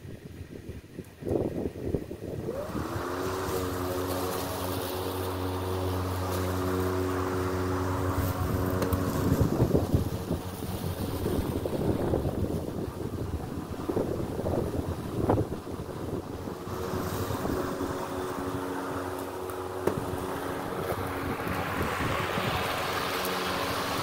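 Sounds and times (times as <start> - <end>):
wind buffeting microphone: 0.0 - 24.0
electric lawn mower motor: 1.9 - 24.0.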